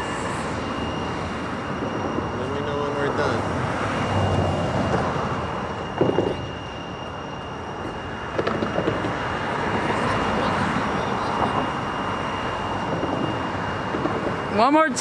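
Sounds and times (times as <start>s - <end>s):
thin constant high tone: 0.0s - 15.0s.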